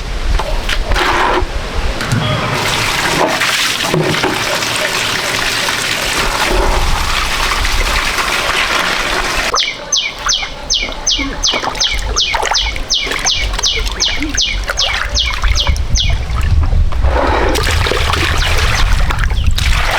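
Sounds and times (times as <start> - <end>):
water splashing and sloshing: 0.0 - 19.9.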